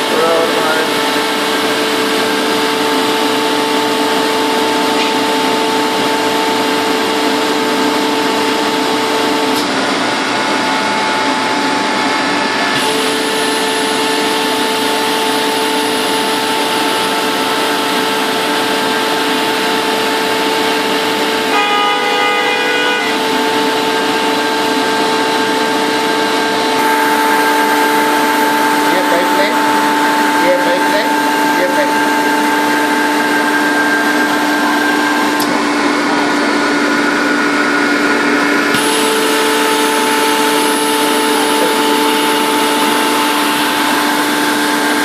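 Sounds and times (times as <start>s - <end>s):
air compressor hissing and whining: 0.0s - 45.0s.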